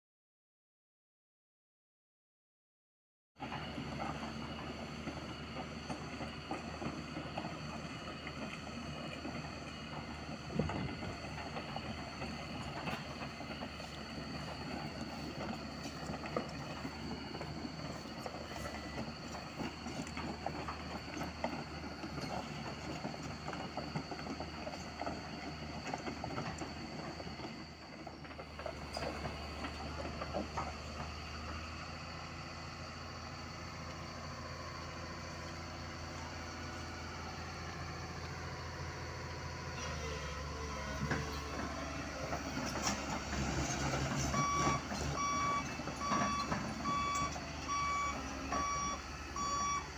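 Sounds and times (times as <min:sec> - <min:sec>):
diesel engine running: 0:03.4 - 0:49.9
excavator tracks clanking: 0:03.4 - 0:49.9.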